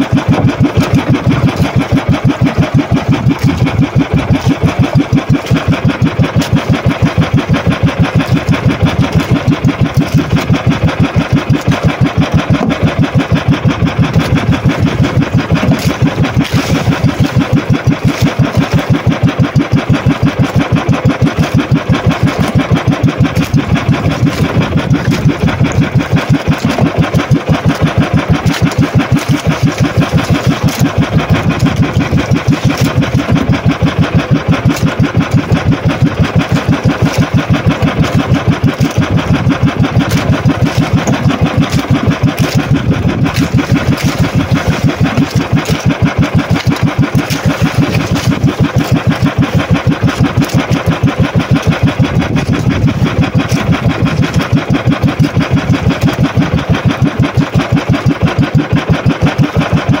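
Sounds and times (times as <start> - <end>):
boat engine running: 0.0 - 60.0.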